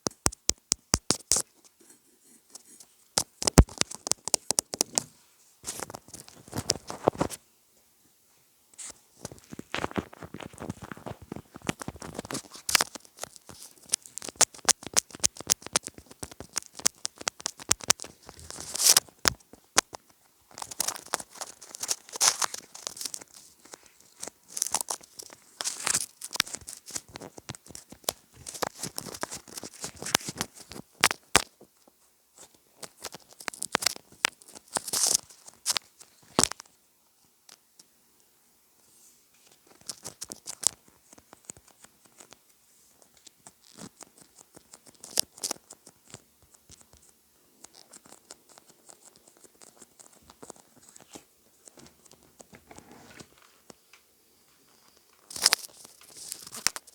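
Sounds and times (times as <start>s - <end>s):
crinkling and crackling clicks: 0.0s - 7.4s, 8.7s - 37.9s, 39.3s - 56.9s.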